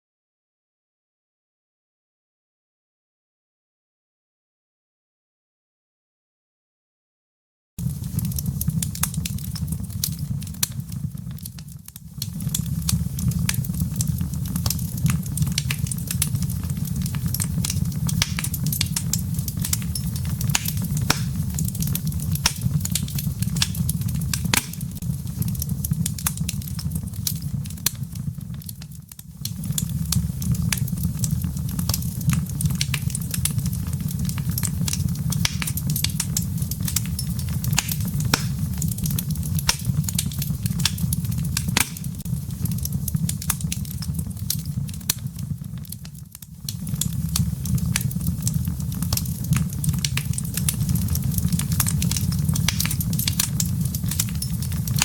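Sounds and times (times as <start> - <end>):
low rumble of flames: 7.8 - 55.0
wood fire crackling and popping: 7.8 - 55.0.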